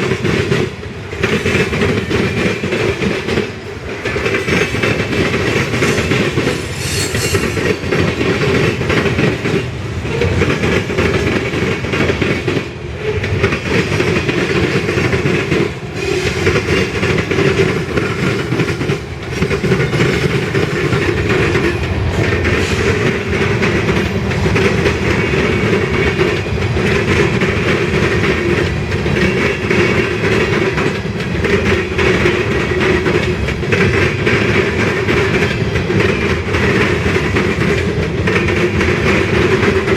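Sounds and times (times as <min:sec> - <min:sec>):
freight train rumbling past: 0:00.0 - 0:39.9
steel wheels clattering on rails: 0:00.0 - 0:39.9.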